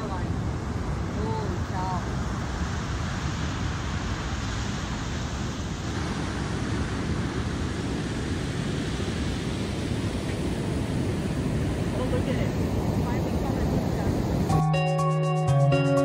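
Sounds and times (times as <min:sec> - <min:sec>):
ocean surf on a beach: 0:00.0 - 0:16.0.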